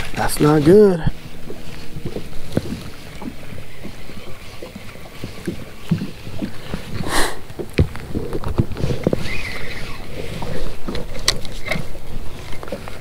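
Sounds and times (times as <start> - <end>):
waves lapping against hull: 0.0 - 13.0.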